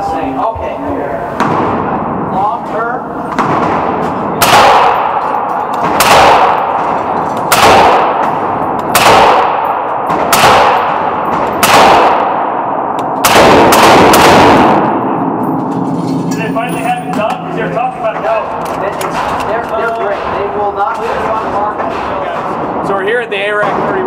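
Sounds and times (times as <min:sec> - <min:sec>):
rifle shots ringing: 0:03.2 - 0:22.9.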